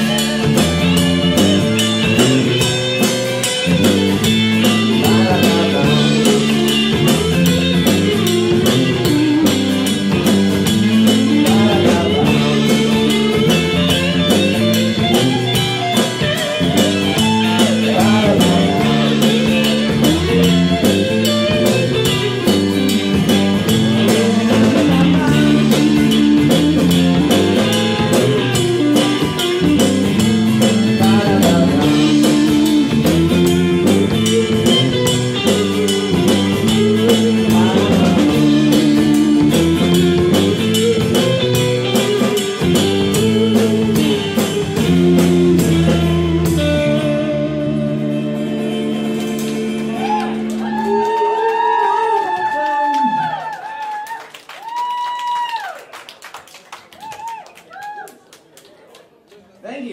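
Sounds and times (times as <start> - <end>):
steady drum beat: 0.0 - 51.8
live rock band playing: 0.0 - 55.5.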